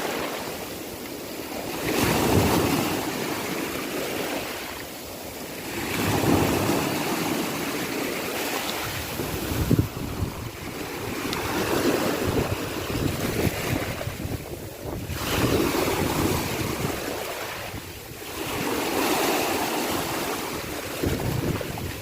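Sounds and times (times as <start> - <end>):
wind on microphone: 0.0 - 4.7, 5.3 - 22.0
sea waves breaking: 0.0 - 22.0.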